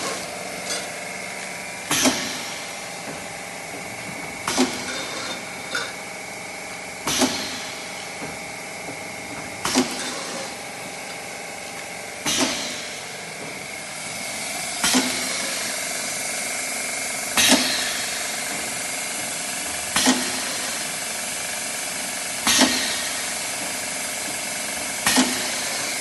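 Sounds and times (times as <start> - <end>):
machine clacking with hiss: 0.0 - 26.0
machine hum with high whine: 0.0 - 26.0.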